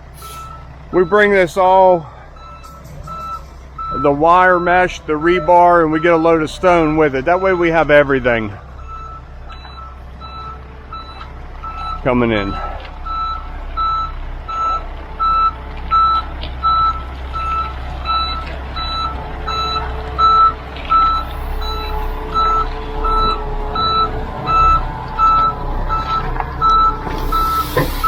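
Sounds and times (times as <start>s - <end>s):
truck engine rumble: 0.0s - 28.0s
reversing alarm beeping: 0.2s - 28.0s.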